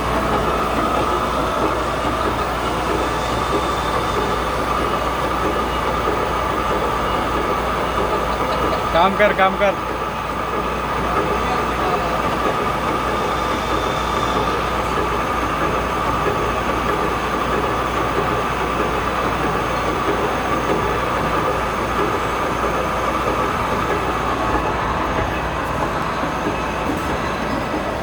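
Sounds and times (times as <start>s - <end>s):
metal lathe whining: 0.0s - 28.0s.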